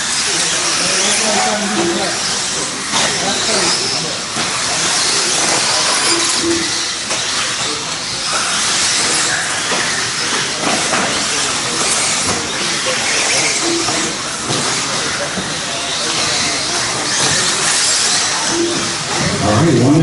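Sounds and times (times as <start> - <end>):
rc buggies racing: 0.0 - 20.0.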